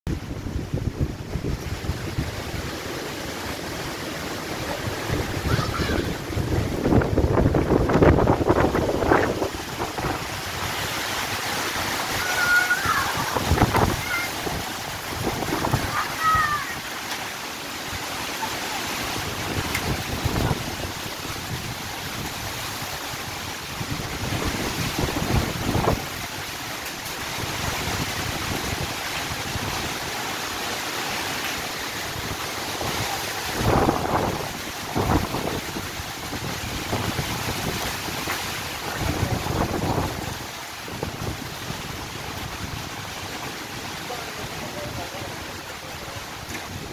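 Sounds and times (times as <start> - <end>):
wind buffeting microphone: 0.1 - 17.0, 19.0 - 30.2, 31.7 - 46.9
wind rushing through trees: 0.1 - 46.9.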